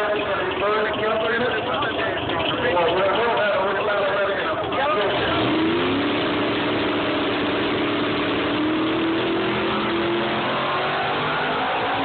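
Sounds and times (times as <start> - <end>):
drag racing car accelerating: 0.0 - 12.0.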